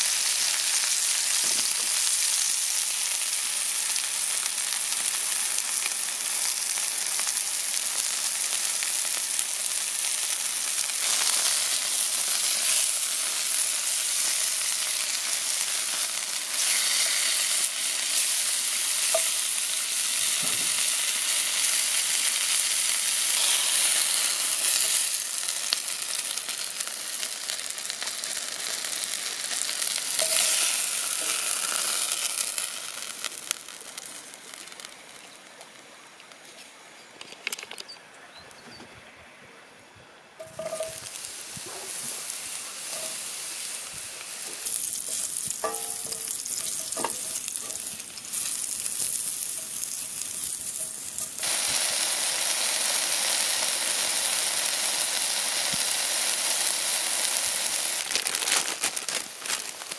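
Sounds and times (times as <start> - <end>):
food sizzling in a skillet: 0.0 - 35.4, 40.4 - 59.9.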